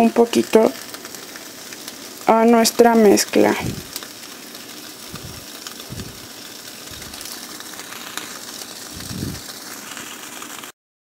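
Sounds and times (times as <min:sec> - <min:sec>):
egg cooking hiss: 0:00.0 - 0:10.8.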